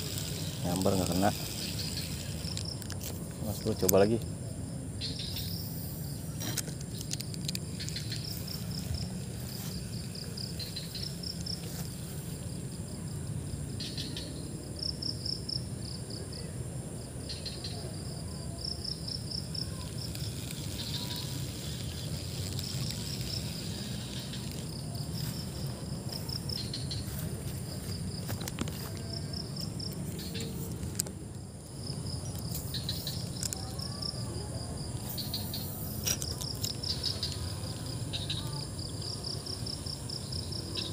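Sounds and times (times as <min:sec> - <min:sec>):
insects chirping in pulsed trills: 0:00.0 - 0:40.9.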